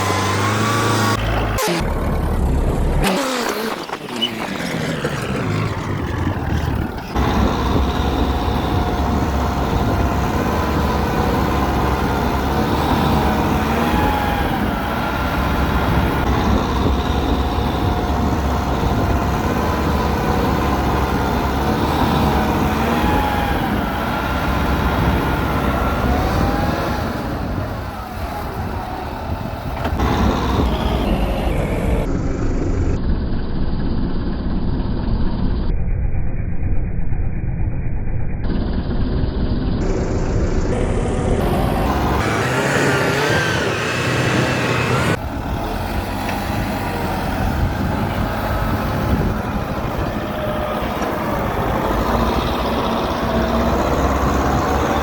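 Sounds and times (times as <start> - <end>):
tractor engine working: 0.0 - 37.1, 38.0 - 55.0.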